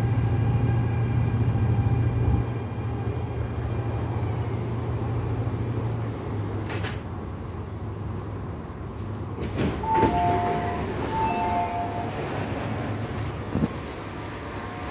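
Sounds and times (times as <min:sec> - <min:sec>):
train humming: 0:00.0 - 0:14.9.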